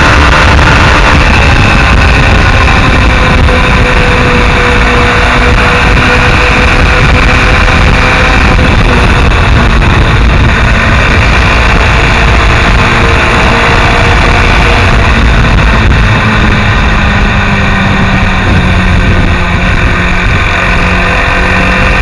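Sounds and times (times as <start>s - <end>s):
motorcycle engine: 0.0s - 22.0s
wind rush on microphone: 0.0s - 22.0s.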